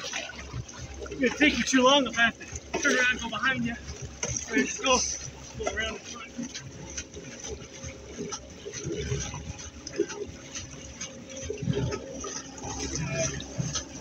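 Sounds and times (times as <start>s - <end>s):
water sloshing against boat hull: 0.0s - 14.0s
water splashes: 0.0s - 14.0s.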